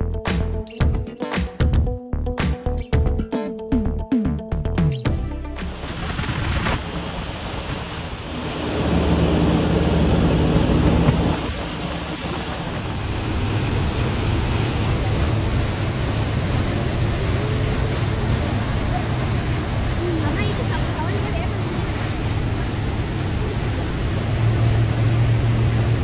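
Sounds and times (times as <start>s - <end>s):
speedboat engine humming: 2.6s - 26.0s
water rushing and wind: 5.1s - 26.0s.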